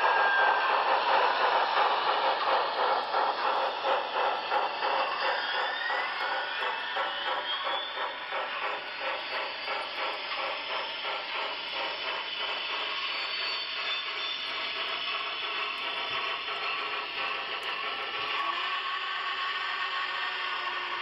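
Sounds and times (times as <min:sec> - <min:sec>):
model train wheels rattling and clicking: 0:00.1 - 0:18.5.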